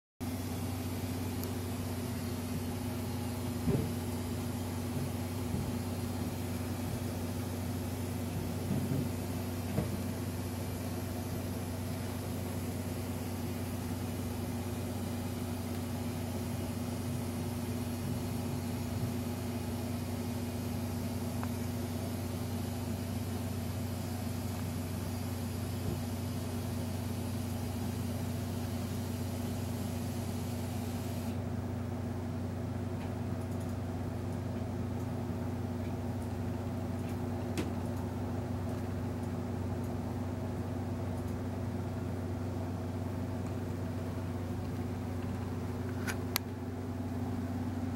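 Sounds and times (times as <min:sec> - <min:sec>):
low mechanical hum: 0:00.2 - 0:47.9.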